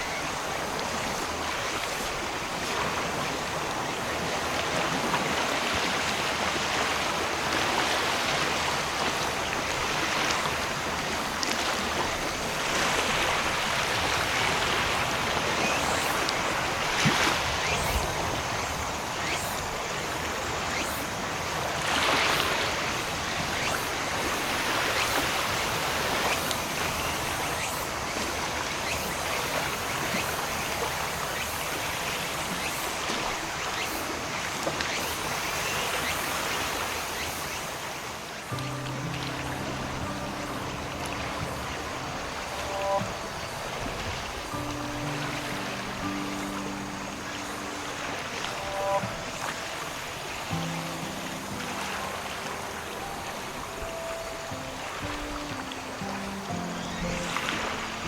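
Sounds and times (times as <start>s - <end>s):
waves washing onto beach: 0.0s - 58.0s.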